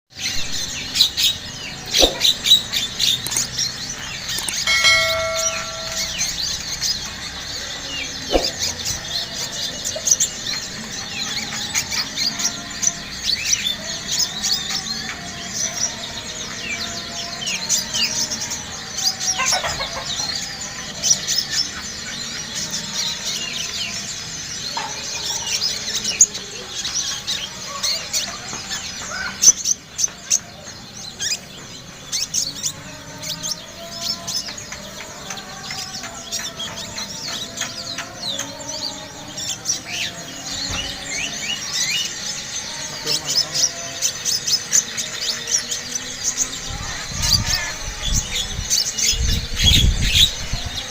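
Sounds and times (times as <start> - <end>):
bird chirping and twittering: 0.1 - 50.9.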